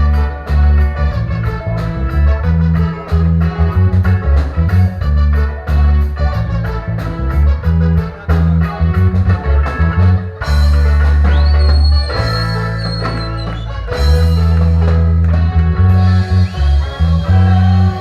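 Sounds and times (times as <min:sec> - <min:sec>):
reggae bass and guitar: 0:00.0 - 0:18.0.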